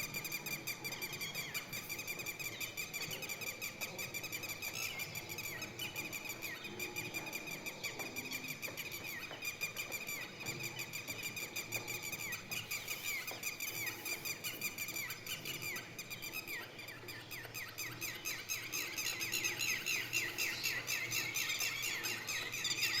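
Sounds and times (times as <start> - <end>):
bird chirping: 0.0 - 23.0.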